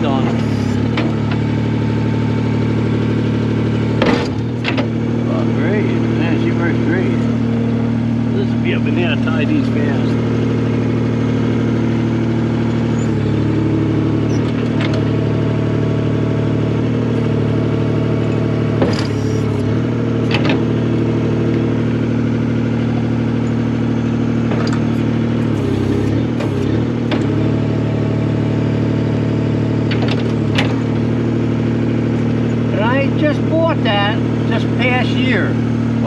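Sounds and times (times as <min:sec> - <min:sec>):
skid steer engine running: 0:00.0 - 0:36.0.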